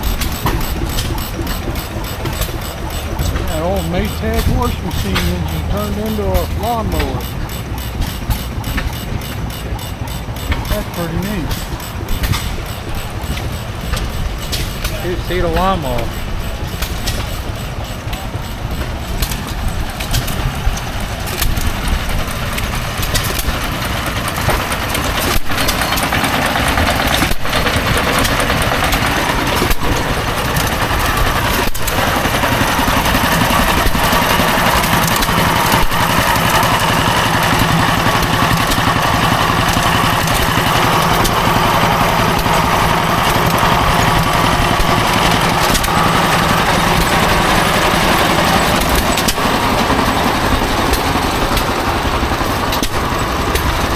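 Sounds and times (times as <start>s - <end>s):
old engine running: 0.0s - 53.9s.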